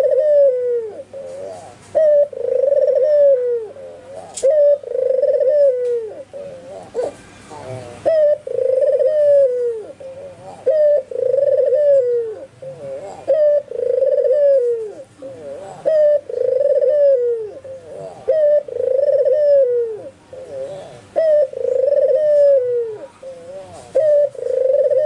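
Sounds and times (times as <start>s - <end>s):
dove cooing: 0.0s - 25.0s.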